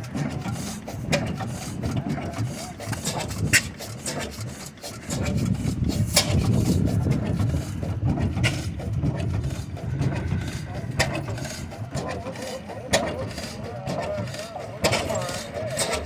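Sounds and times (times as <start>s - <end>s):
steam engine rhythmic beat: 0.0s - 16.0s.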